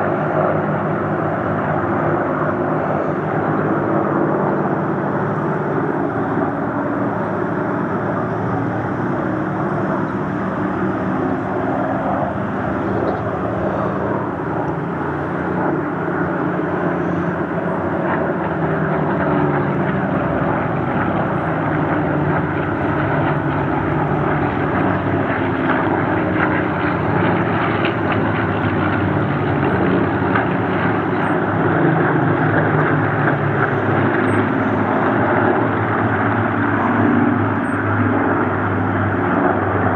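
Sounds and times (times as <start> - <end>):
propeller plane engines droning: 0.0 - 39.9.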